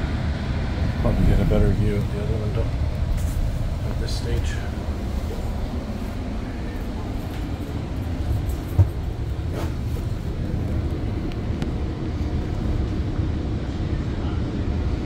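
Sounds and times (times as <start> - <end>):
train coach rumbling on rails: 0.0 - 15.0.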